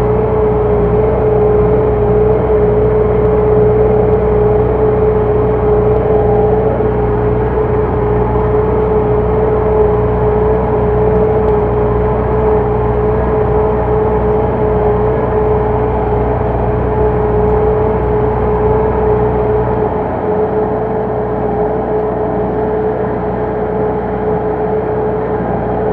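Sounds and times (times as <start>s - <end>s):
steady whine: 0.0s - 25.9s
tractor diesel engine droning: 0.0s - 25.9s.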